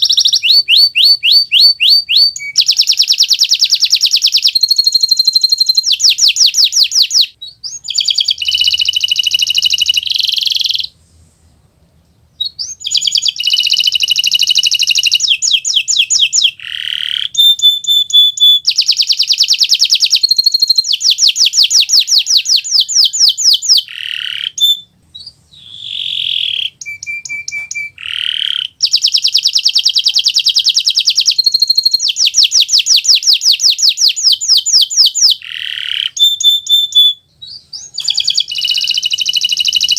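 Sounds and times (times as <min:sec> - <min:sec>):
canary singing in fast trills: 0:00.0 - 0:11.0, 0:12.2 - 0:39.9.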